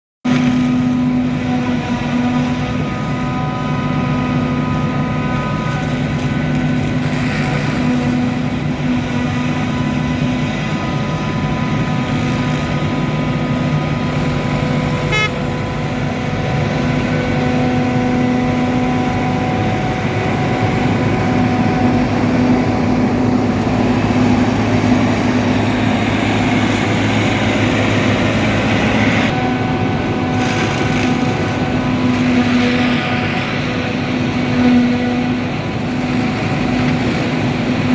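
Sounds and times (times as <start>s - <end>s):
combine harvester engine and machinery: 0.2s - 37.9s.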